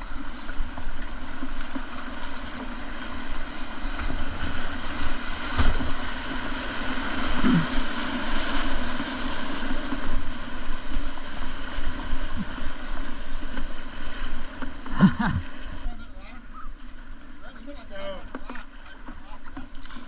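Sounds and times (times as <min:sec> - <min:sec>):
rushing whitewater: 0:00.0 - 0:19.3.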